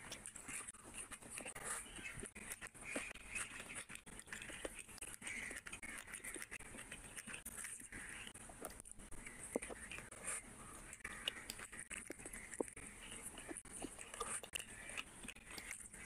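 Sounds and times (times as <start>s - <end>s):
fingers squishing rice: 0.0s - 16.0s
small irregular clicks: 0.0s - 16.0s
wet chewing and lip smacking: 0.0s - 16.0s.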